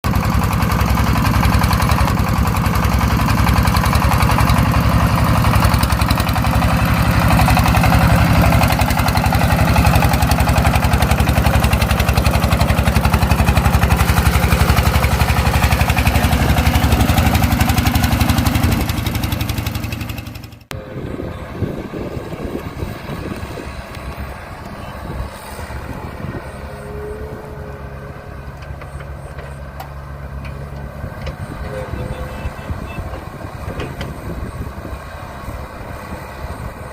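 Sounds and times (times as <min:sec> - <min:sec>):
tractor engine chugging: 0:00.0 - 0:36.9.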